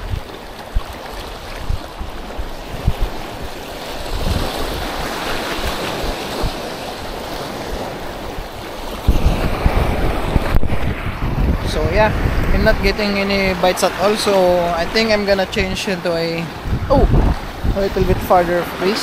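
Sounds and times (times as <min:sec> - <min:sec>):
sea waves washing onto beach: 0:00.0 - 0:19.0
wind rumbling on microphone: 0:00.0 - 0:19.0.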